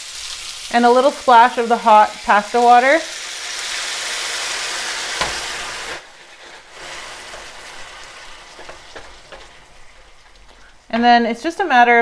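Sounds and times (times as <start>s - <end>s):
water pouring into a hot pan: 0.0s - 10.9s
pan sizzling: 0.0s - 12.0s.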